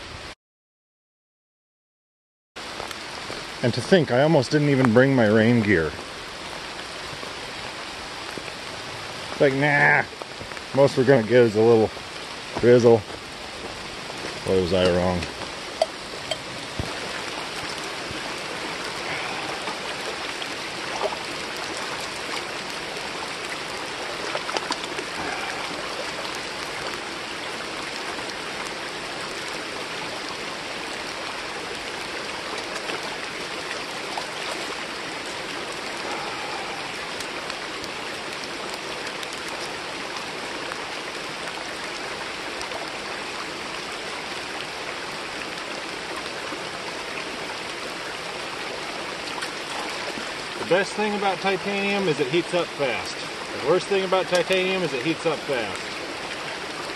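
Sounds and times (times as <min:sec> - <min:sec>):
creek flowing: 0:02.6 - 0:56.9
heavy rain falling: 0:02.6 - 0:56.9.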